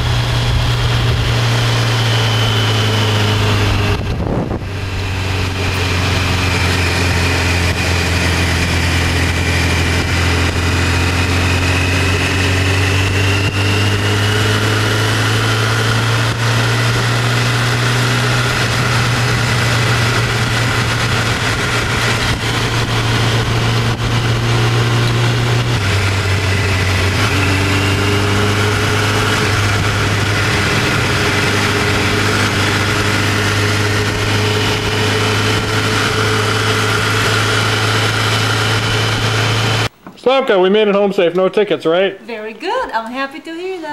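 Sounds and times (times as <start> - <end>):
wind rush: 0.0 - 39.9
motorcycle engine running: 0.0 - 40.0.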